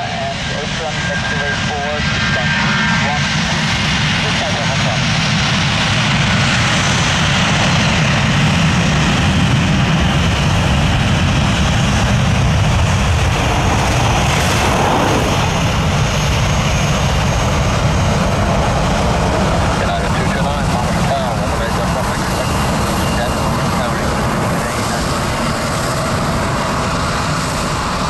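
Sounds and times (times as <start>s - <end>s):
jet engines at take-off power: 0.0s - 28.0s.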